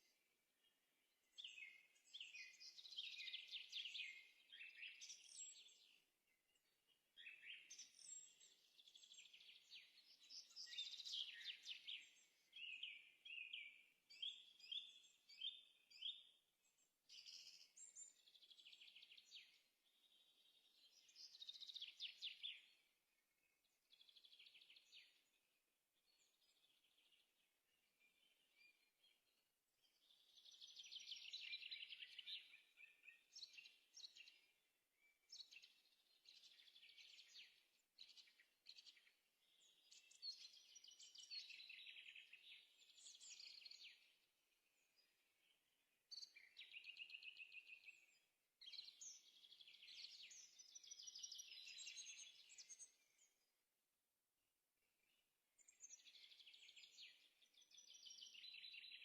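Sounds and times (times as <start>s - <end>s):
small birds singing: 0.0s - 59.0s.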